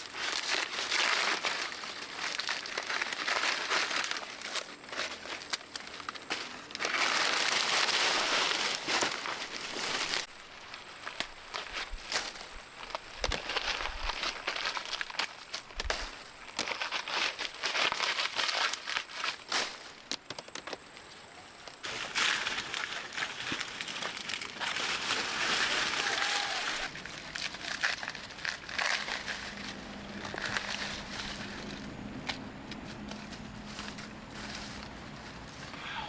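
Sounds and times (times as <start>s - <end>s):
crinkling crackling rustle: 0.0s - 36.0s.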